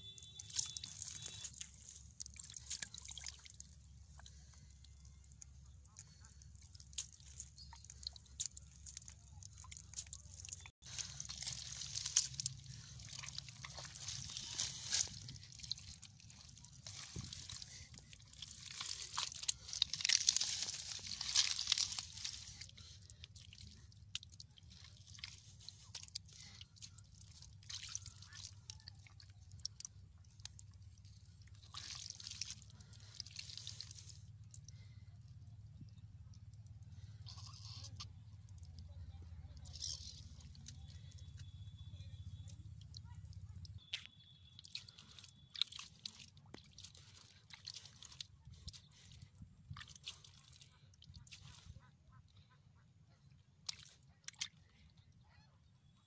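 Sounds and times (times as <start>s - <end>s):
mud squelching: 0.0s - 56.0s
muddy water sloshing and dripping: 0.0s - 56.0s
small clicks and splashes: 0.0s - 56.0s.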